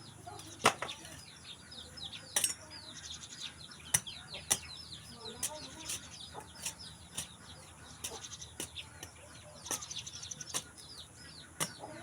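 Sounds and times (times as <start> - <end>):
high bird chirps and twitters: 0.0 - 12.0.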